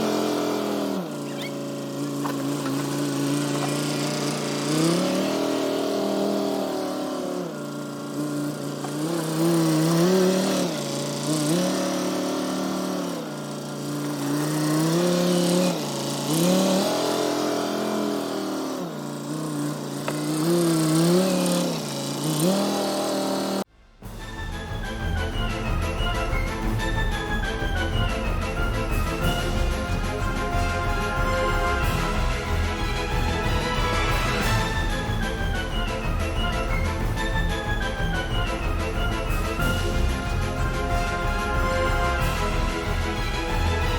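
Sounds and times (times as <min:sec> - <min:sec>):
tractor diesel engine revving: 0:00.0 - 0:43.9.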